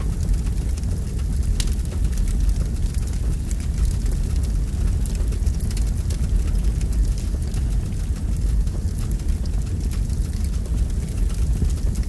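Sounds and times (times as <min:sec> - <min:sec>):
deep rumble of fire flames: 0:00.0 - 0:12.0
sharp fire crackles: 0:00.0 - 0:12.0.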